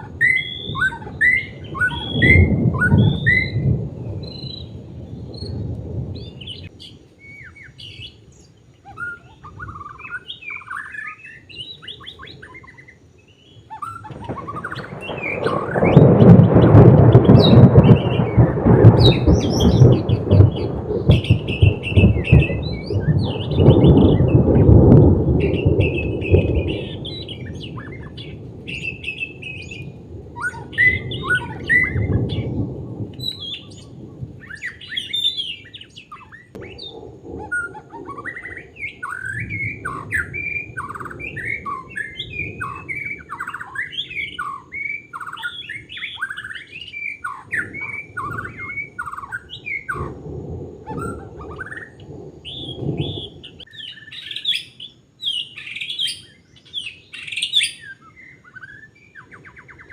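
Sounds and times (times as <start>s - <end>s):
bird singing whistled phrases: 0.0s - 5.6s, 6.2s - 24.5s, 25.4s - 32.6s, 33.2s - 50.1s, 50.9s - 59.9s
repeated falling bird notes: 0.0s - 54.5s.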